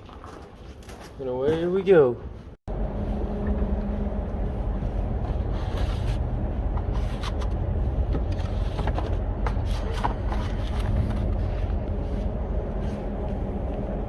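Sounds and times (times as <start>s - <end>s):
vehicle engine and road rumble: 2.0s - 14.0s.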